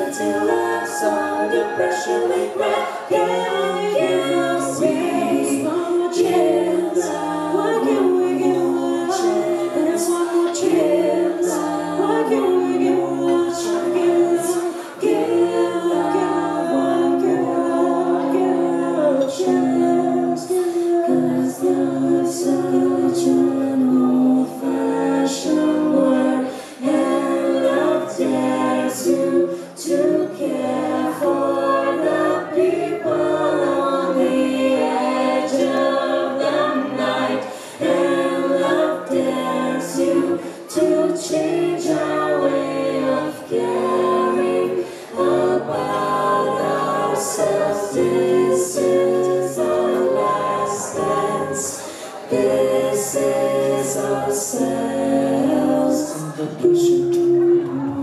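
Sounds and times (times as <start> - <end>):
a cappella group singing harmony: 0.0 - 58.0.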